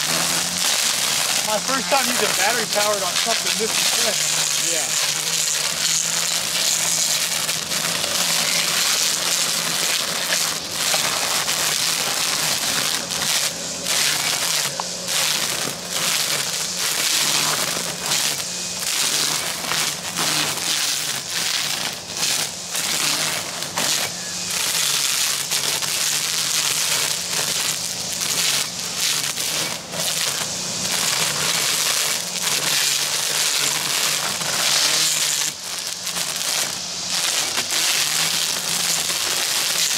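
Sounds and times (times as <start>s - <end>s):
string trimmer cutting grass: 0.0s - 39.9s.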